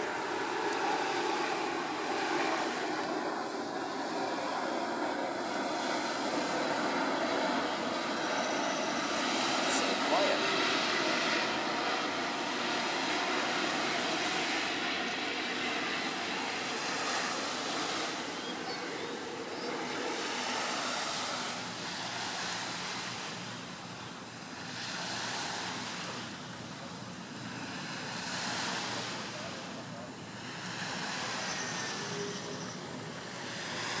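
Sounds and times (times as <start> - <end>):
jet engines rushing in flight: 0.0 - 34.0.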